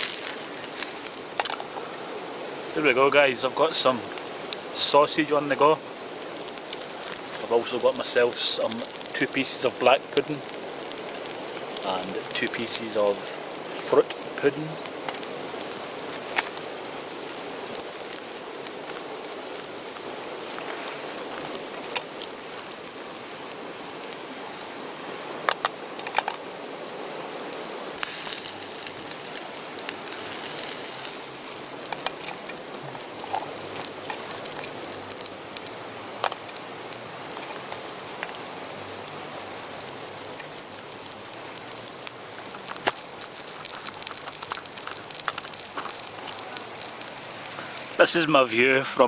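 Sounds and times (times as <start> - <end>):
sausage sizzling in a frying pan: 0.0 - 48.8.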